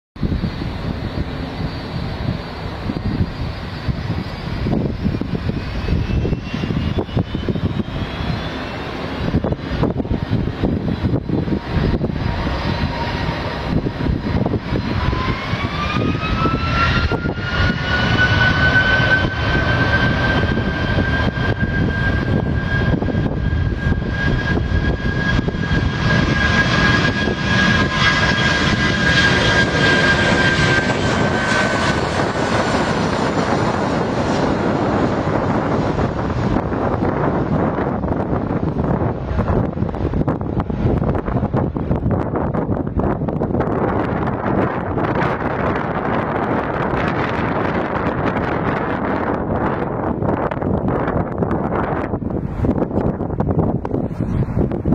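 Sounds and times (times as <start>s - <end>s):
aircraft engine noise: 0.2s - 54.9s
rising whine: 0.2s - 54.9s.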